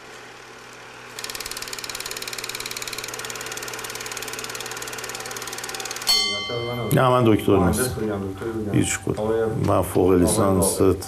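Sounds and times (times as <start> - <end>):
projector motor hum: 0.0 - 11.0.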